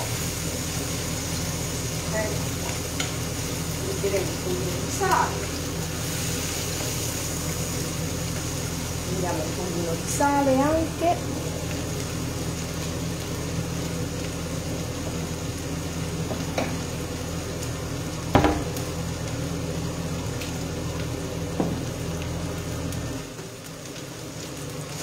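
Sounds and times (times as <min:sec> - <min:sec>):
shrimp sizzling in a saucepan: 0:00.0 - 0:25.0.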